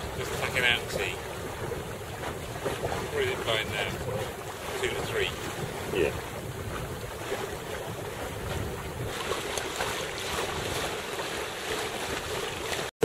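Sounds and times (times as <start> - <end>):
wind buffeting microphone: 0.0 - 12.9
water washing along a hull: 0.0 - 13.0.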